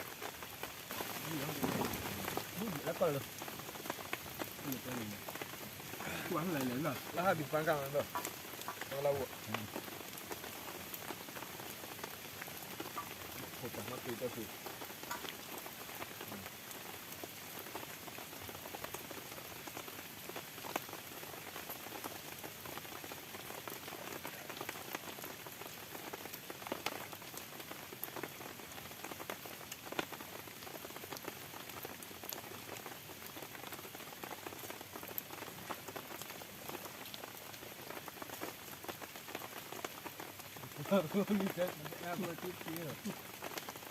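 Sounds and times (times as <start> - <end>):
heavy rain falling: 0.0 - 43.9
louder raindrops striking close: 0.0 - 43.9.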